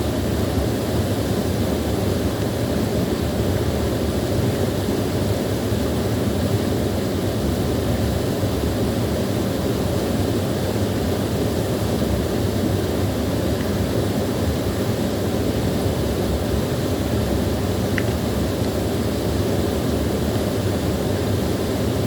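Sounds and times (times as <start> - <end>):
small waterfall splashing: 0.0 - 22.0.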